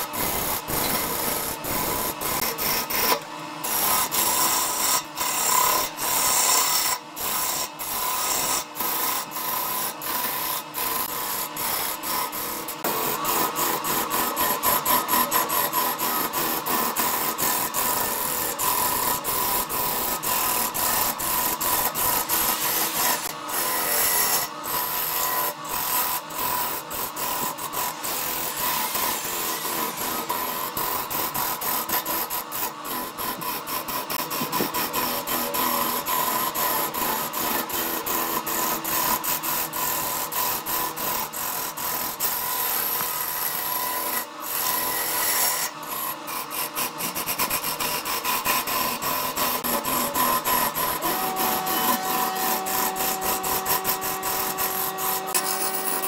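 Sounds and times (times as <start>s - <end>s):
lathe motor whine: 0.0s - 40.7s, 48.7s - 56.0s
lathe tool scraping wood: 0.0s - 56.0s.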